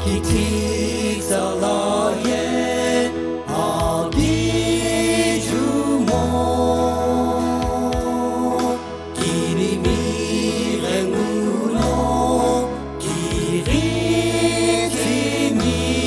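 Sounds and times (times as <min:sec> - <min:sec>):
male vocal quartet singing: 0:00.0 - 0:16.0
sustained low accompaniment: 0:00.0 - 0:16.0.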